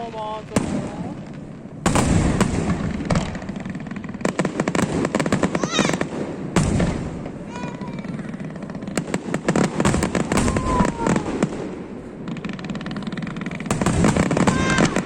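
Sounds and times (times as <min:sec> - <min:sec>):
fireworks popping and crackling: 0:00.0 - 0:15.0
fireworks bang: 0:00.5 - 0:15.0.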